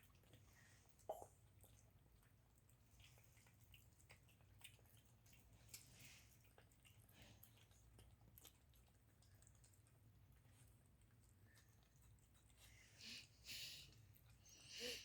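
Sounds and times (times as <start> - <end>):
pets chewing food: 0.0 - 15.0.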